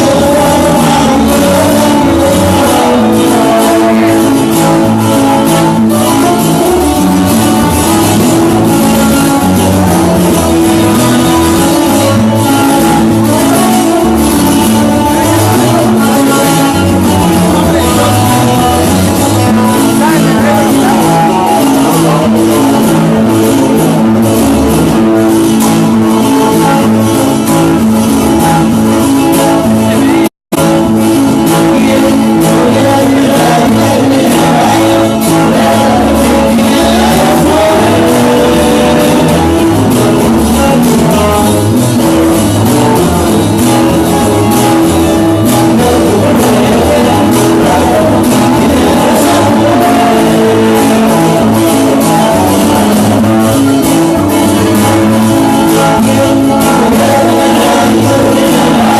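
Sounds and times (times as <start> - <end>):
bass line: 0.0 - 58.9
loud band music: 0.0 - 58.9
person singing: 0.0 - 58.9.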